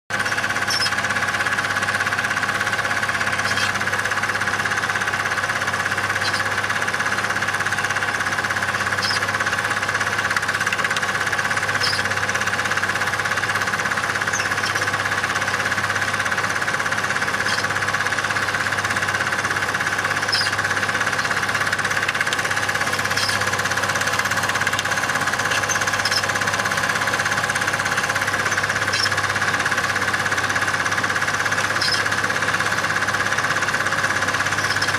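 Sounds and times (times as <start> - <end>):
film projector whirr and clatter: 0.1 - 34.9.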